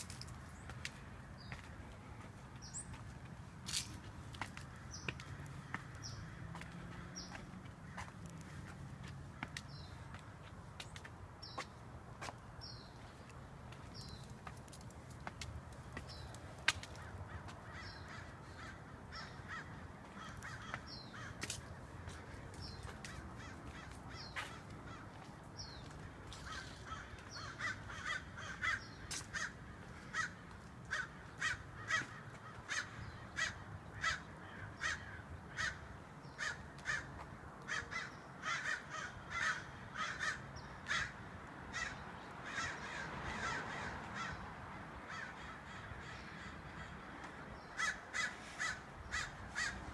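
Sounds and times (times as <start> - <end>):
crows cawing: 3.7 - 10.2, 16.2 - 49.9.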